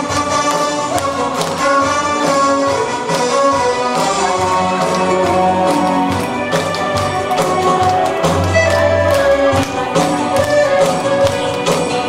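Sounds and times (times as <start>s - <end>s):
audience clapping along: 0.0s - 12.0s
instrumental music over loudspeakers: 0.0s - 12.0s.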